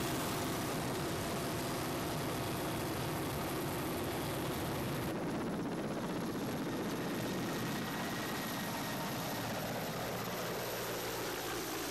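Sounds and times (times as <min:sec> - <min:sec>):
helicopter engine and rotor: 0:00.0 - 0:11.9.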